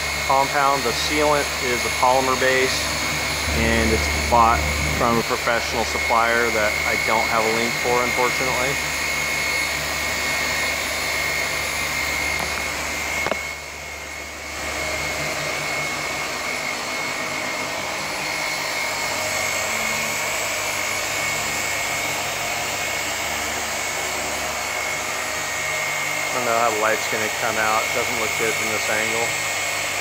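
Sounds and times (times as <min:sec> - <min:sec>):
electric polisher whining: 0:00.0 - 0:30.0.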